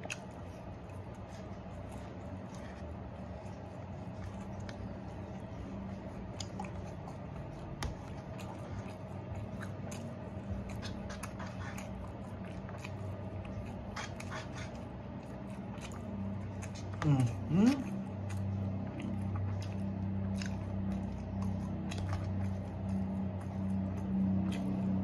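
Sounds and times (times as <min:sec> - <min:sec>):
chewing: 0:00.0 - 0:25.0
steady low hum: 0:00.0 - 0:25.0.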